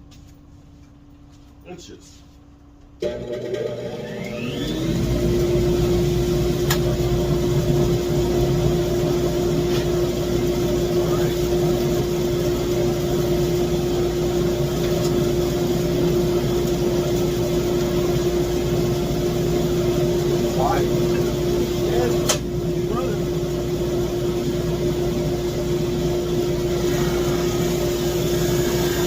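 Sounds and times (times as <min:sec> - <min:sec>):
drum sander humming: 0:03.0 - 0:29.0.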